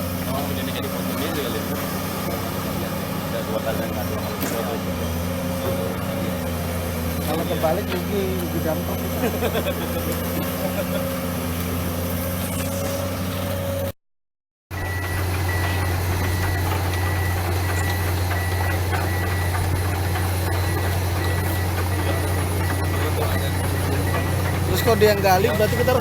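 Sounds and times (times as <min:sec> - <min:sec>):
diesel engine droning: 0:00.0 - 0:14.0, 0:14.7 - 0:26.0.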